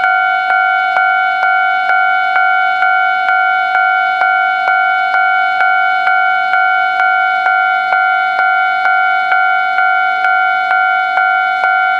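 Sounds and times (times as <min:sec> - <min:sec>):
level crossing warning bell: 0:00.0 - 0:11.9.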